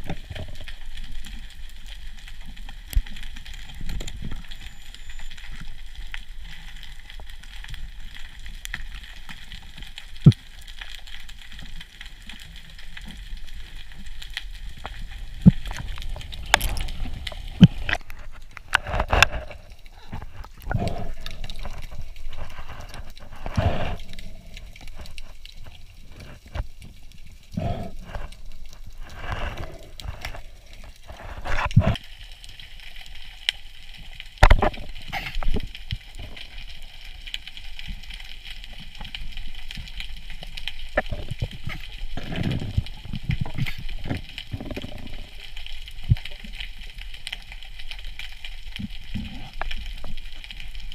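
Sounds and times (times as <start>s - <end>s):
water sloshing and bubbling: 0.0s - 50.9s.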